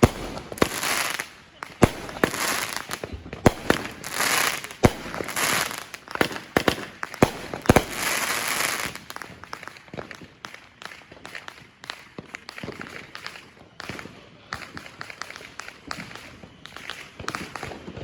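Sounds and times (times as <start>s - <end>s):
fireworks bangs: 0.0s - 18.0s
fireworks hissing and crackling: 0.0s - 18.0s.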